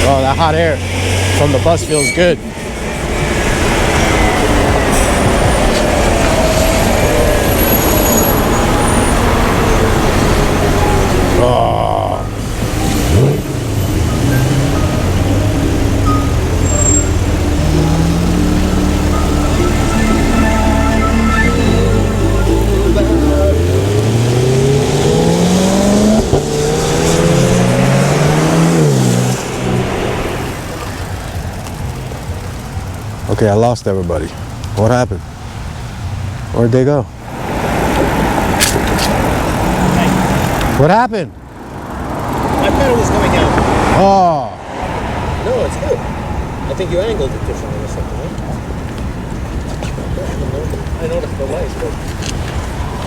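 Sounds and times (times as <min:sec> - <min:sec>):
bus engine and road noise: 0:00.0 - 0:53.0.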